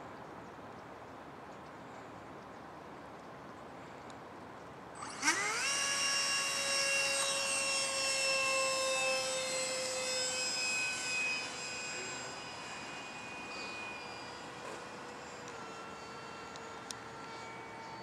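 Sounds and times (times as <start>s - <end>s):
electric ducted fan whine: 0.0s - 18.0s.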